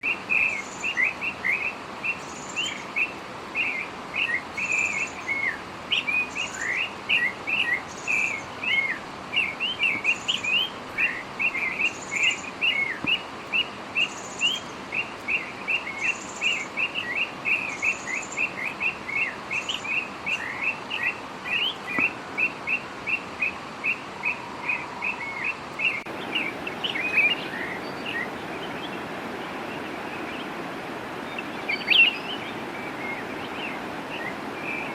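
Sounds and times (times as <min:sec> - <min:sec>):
bird chirping: 0:00.0 - 0:34.9
outdoor hiss: 0:00.0 - 0:34.9.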